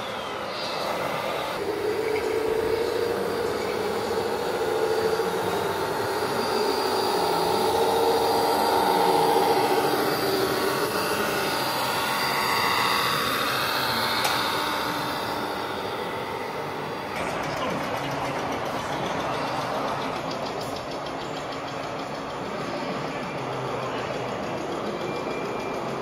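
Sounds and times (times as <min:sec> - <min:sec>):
model trucks electric motors whining: 0:00.0 - 0:26.0.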